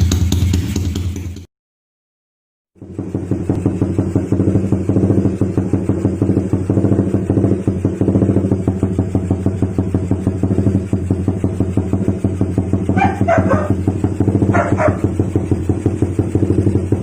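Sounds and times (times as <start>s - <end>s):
motorcycle engine running: 0.0s - 1.5s, 2.8s - 17.0s.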